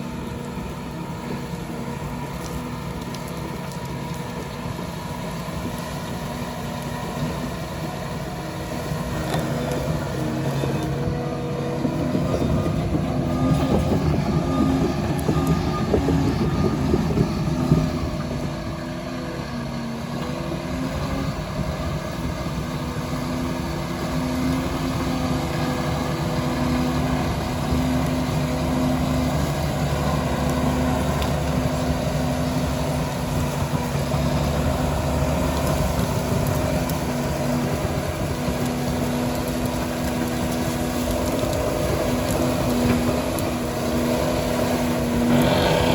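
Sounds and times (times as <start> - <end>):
dozer diesel engine running: 0.0 - 45.9.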